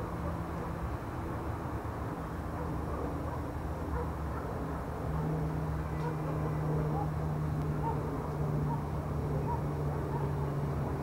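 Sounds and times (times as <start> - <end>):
constant low hum: 0.0 - 11.0
distant traffic rumble: 0.0 - 11.0.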